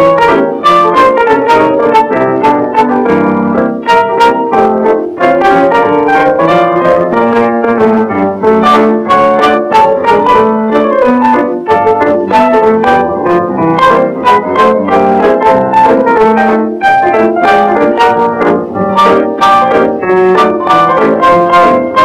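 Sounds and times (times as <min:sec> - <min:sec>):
lively piano music: 0:00.0 - 0:22.0.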